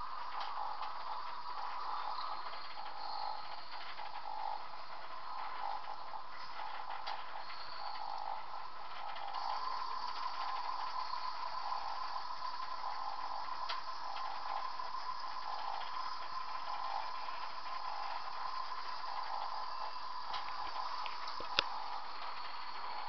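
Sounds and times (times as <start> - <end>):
model trains whirring: 0.0 - 23.0.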